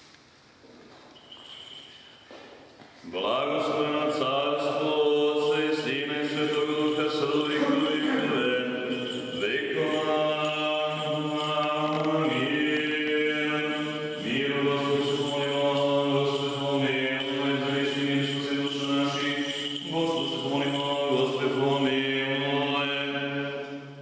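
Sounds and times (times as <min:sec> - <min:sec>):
church chant in long notes: 0:03.0 - 0:24.0.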